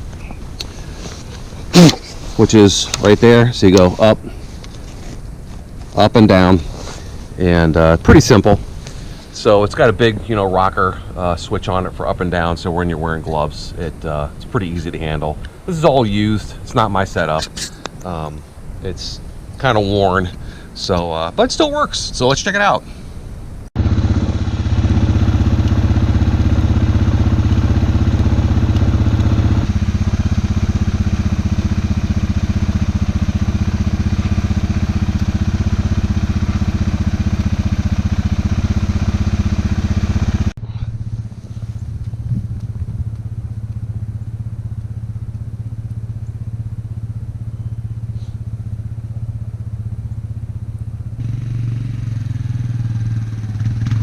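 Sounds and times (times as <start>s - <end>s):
atv engine running: 0.0s - 19.5s, 23.8s - 54.0s.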